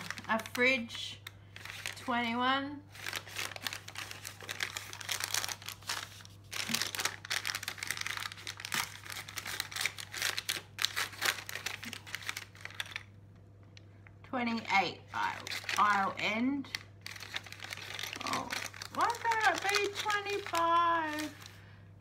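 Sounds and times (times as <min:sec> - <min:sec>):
plastic packets crinkling: 0:00.0 - 0:02.3, 0:02.9 - 0:13.2, 0:15.2 - 0:21.7.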